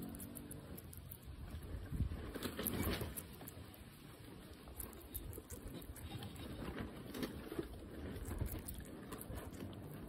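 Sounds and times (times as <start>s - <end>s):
guinea pig chewing tomato: 0.0s - 10.0s.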